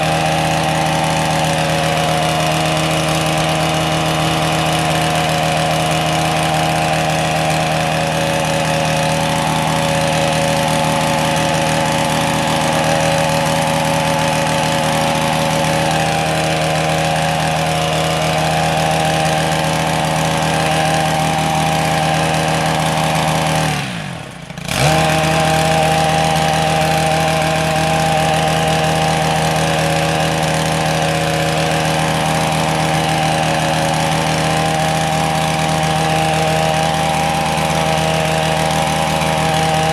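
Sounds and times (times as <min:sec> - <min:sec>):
hedge trimmer engine running: 0:00.0 - 0:39.9.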